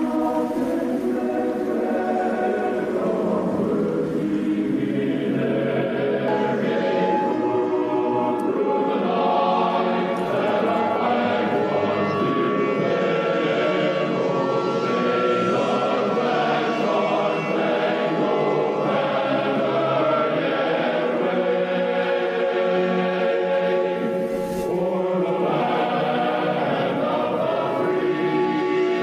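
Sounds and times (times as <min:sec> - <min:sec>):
choir singing slow held notes: 0:00.0 - 0:29.0.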